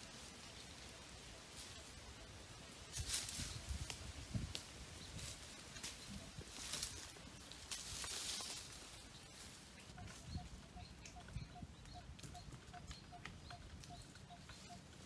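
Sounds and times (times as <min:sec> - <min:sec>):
rustling of leaves and twigs: 0:00.0 - 0:15.0.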